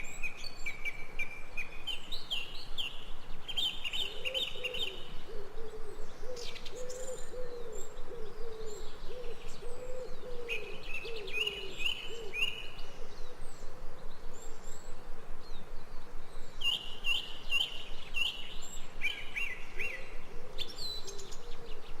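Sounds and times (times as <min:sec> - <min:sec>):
low bird cooing: 0:00.0 - 0:22.0
steady background hiss: 0:00.0 - 0:22.0.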